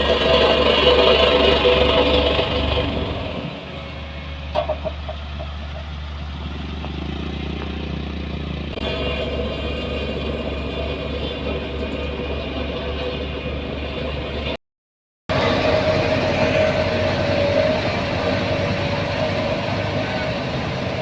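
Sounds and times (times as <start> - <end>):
machinery engine humming: 0.0 - 14.6, 15.3 - 21.0.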